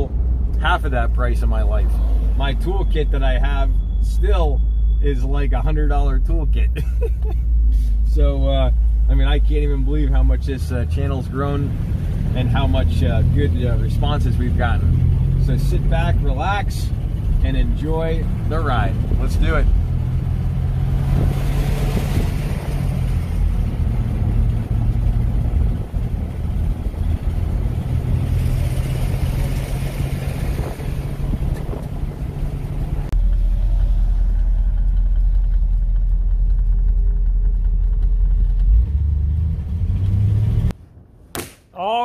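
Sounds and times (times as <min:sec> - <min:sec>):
car engine cruising: 0:00.0 - 0:40.8
tyre and road noise: 0:00.0 - 0:42.0.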